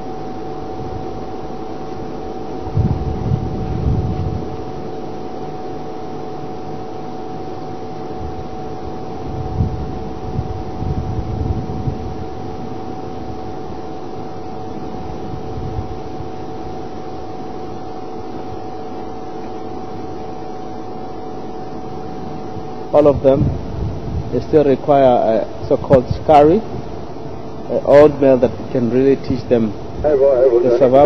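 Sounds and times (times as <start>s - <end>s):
mechanical hum and hiss: 0.0s - 31.0s.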